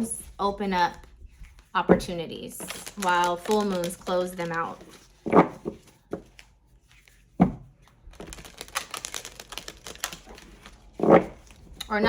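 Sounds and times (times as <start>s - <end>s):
cards being shuffled: 1.0s - 11.9s.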